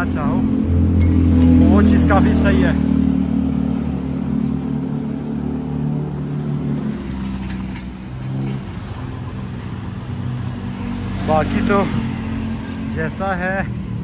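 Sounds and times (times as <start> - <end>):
street traffic: 0.0 - 14.0
vehicle engine humming: 0.0 - 14.0.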